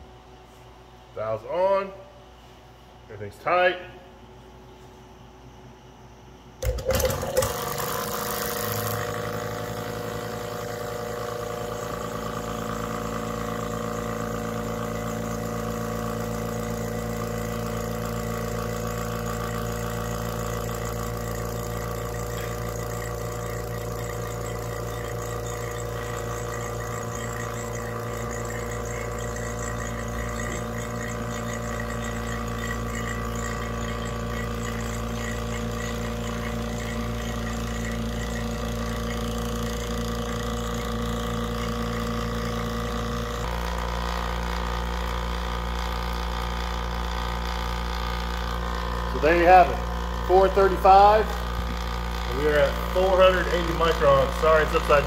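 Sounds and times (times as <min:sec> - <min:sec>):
vacuum pump humming: 0:05.9 - 0:55.0.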